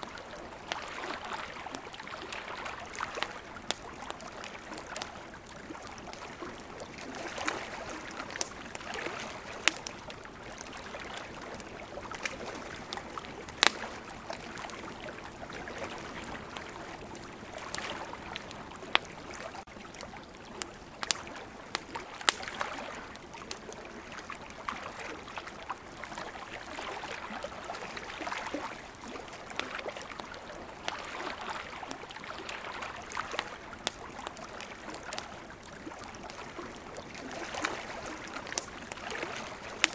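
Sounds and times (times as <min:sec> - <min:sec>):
campfire crackling: 0:00.0 - 0:39.9
sea waves: 0:00.0 - 0:39.9.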